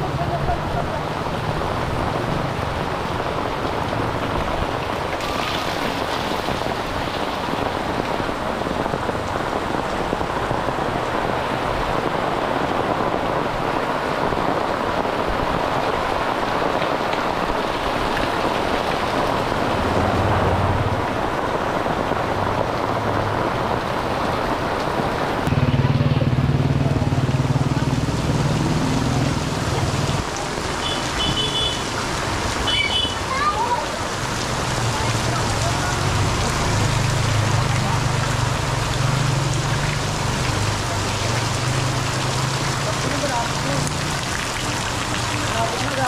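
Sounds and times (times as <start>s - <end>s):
heavy rain on pavement: 0.0s - 46.0s.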